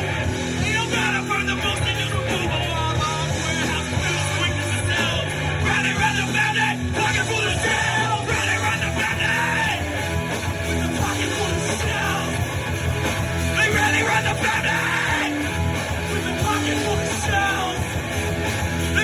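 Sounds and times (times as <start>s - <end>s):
rock band playing: 0.0s - 19.0s
singer yelling and singing: 0.0s - 19.0s.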